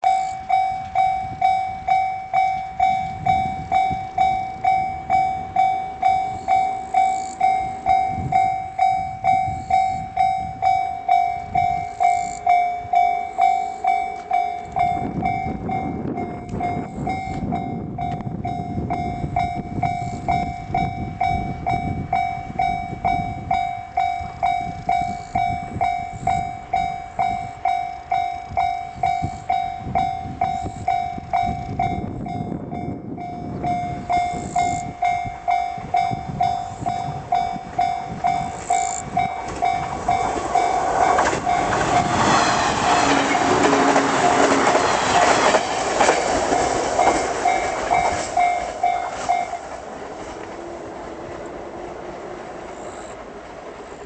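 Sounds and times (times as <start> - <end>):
level crossing alarm ringing: 0.0 - 49.9
train rumble and wheel clatter: 0.0 - 54.0.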